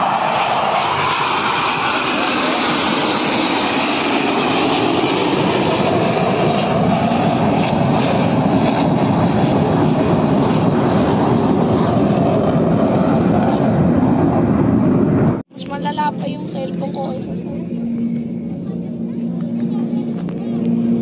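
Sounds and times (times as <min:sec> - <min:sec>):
jet engines flying over: 0:00.0 - 0:21.0.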